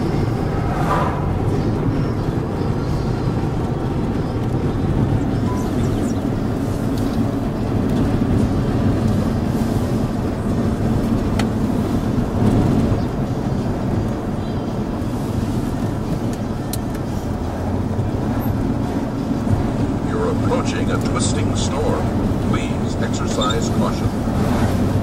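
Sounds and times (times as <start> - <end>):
vehicle road and engine rumble: 0.0 - 25.0.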